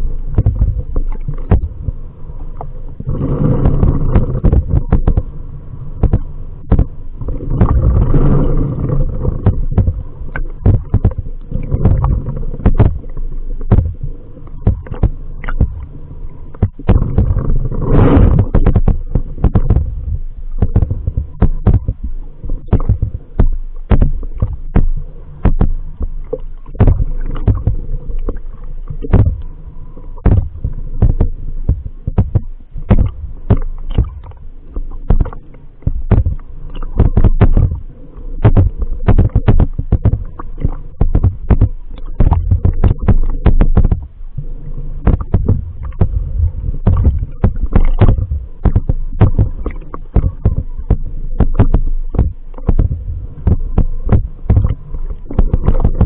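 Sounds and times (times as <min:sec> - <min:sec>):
underwater low rumble: 0:00.0 - 0:56.0.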